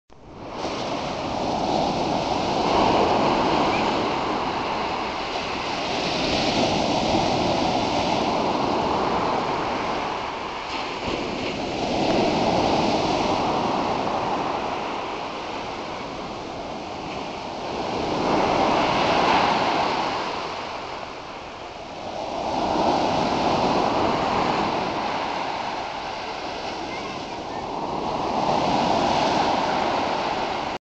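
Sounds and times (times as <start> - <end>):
waves breaking on beach: 0.2 - 30.8.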